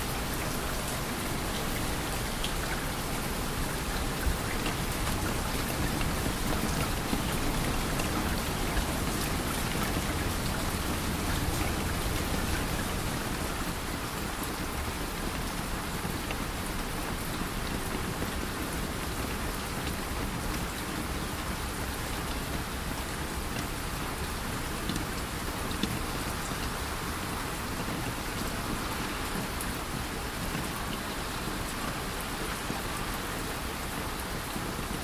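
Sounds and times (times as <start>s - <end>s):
steady rain: 0.0s - 35.0s.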